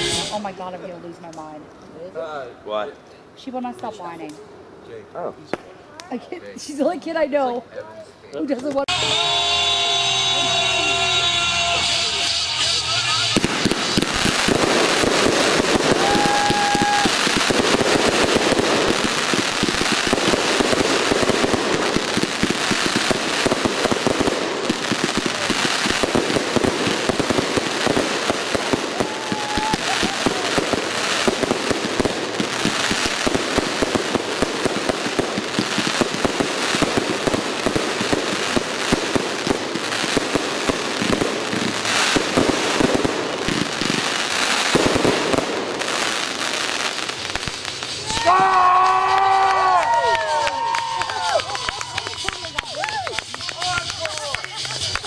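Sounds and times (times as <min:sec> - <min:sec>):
fireworks crackling and popping: 0:00.0 - 0:02.3, 0:05.3 - 0:55.0
fireworks bangs: 0:08.7 - 0:55.0.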